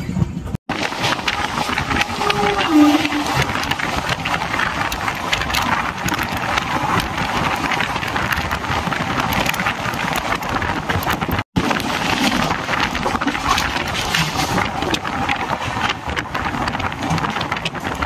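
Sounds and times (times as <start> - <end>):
train running noise: 0.0 - 18.0.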